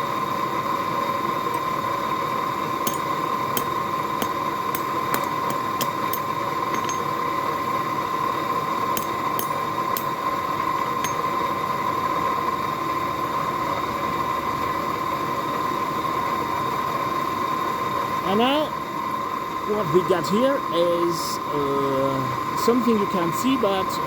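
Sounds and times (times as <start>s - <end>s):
forge humming and whining: 0.0s - 24.0s.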